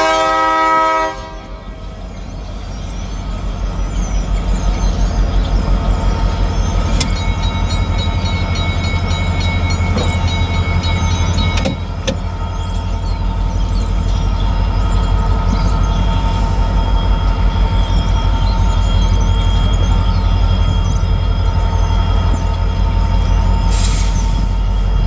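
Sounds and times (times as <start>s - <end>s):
freight train rumbling by: 0.0s - 25.0s.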